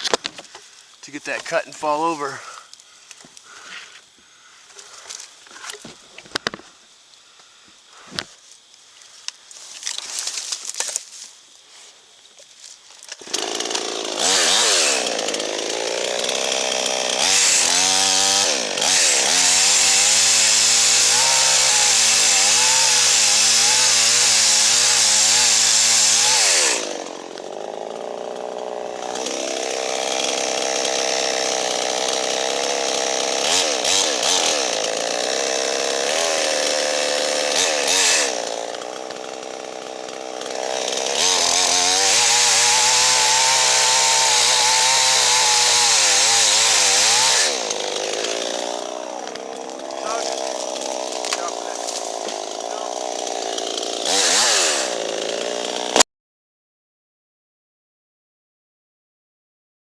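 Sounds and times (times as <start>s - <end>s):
chainsaw cutting wood: 0.0s - 4.1s, 4.7s - 6.7s, 13.0s - 56.1s.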